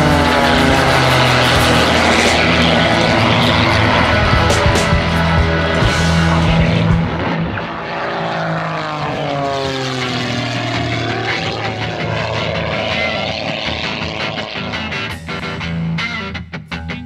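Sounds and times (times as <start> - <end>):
propeller plane droning overhead: 0.0 - 16.0.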